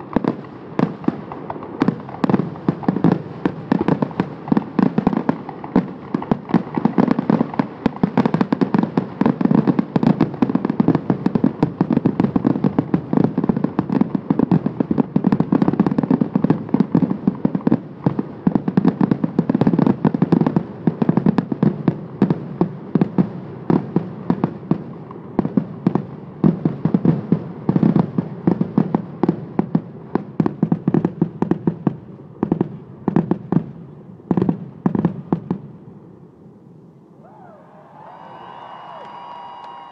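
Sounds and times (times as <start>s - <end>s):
fireworks bangs and crackles: 0.0s - 36.0s, 37.9s - 39.9s.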